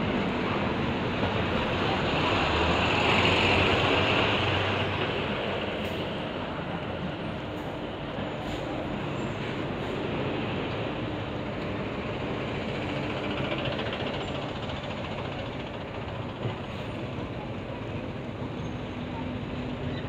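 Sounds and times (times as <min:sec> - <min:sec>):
bus engine passing: 0:00.0 - 0:20.0
street traffic noise: 0:00.0 - 0:20.0.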